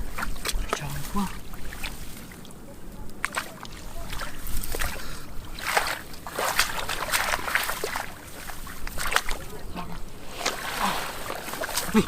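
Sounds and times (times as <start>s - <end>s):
muddy water splashing: 0.0s - 12.0s.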